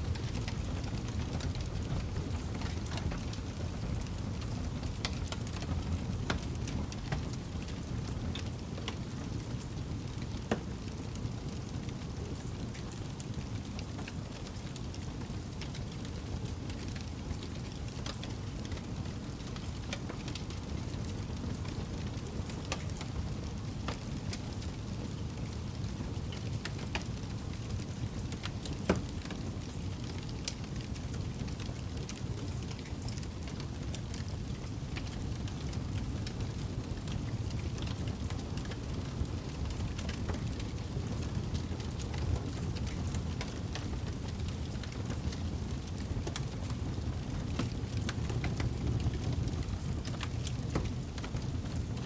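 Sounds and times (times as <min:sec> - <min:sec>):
low rush of flames: 0:00.0 - 0:52.0
wood campfire crackling: 0:00.0 - 0:52.0.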